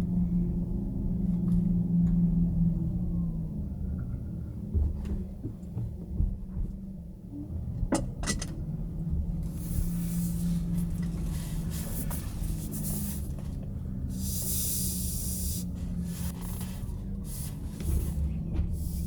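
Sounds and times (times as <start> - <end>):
moving car rumble: 0.0 - 19.0.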